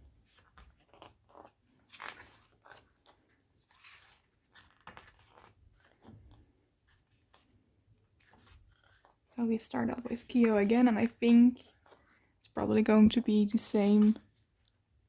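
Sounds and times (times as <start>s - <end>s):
pages rustling and turning: 0.0s - 15.0s.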